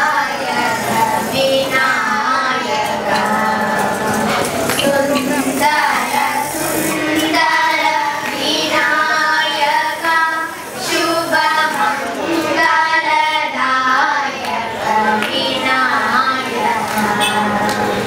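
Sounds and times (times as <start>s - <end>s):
girls singing together: 0.0s - 18.0s.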